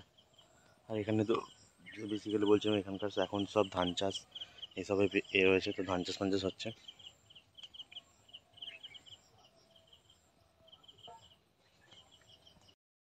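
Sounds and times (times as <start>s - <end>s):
insect chirping: 0.0s - 11.4s
faint bird calls: 0.0s - 12.8s.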